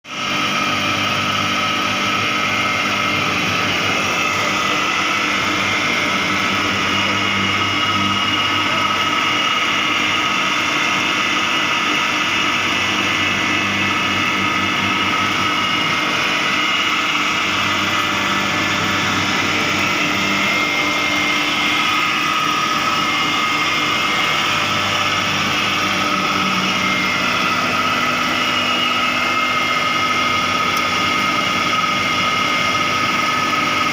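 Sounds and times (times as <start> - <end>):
heater mechanical noise: 0.1 - 33.9.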